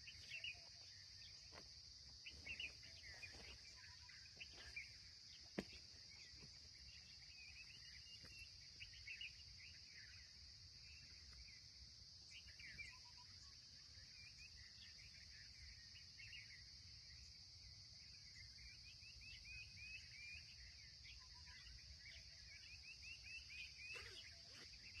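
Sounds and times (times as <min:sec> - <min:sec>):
bird chirps: 0:00.0 - 0:01.6, 0:02.2 - 0:11.6, 0:12.3 - 0:16.6, 0:18.3 - 0:25.0
high insect drone: 0:00.0 - 0:25.0.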